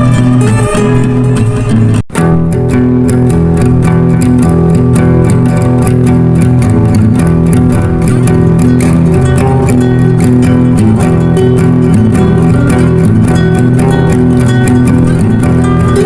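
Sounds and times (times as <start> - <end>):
guitar instrumental with beat: 0.0 - 16.0.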